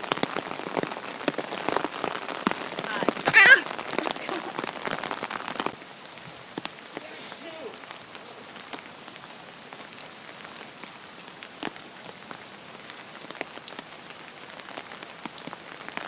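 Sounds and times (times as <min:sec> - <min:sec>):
raindrops ticking on umbrella: 0:00.0 - 0:16.0
steady rainfall hiss: 0:00.0 - 0:16.0.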